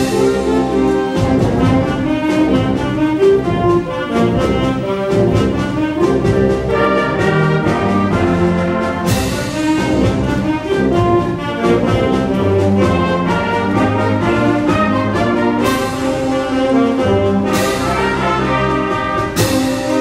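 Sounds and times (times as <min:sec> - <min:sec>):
concert band playing chords: 0:00.0 - 0:20.0.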